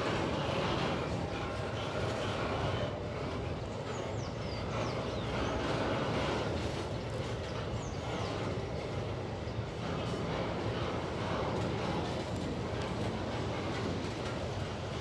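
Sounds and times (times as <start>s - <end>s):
freight wagons rolling on rails: 0.0s - 15.0s.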